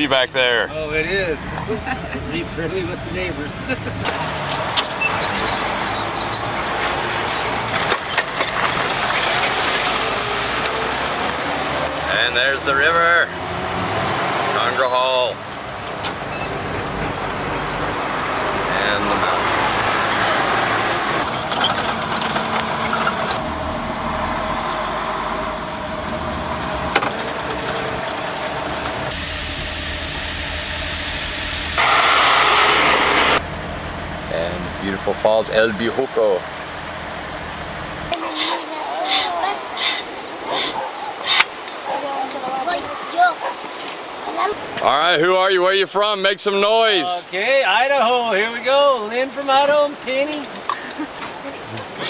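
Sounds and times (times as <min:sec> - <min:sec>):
vehicle road and engine noise: 0:00.0 - 0:52.0.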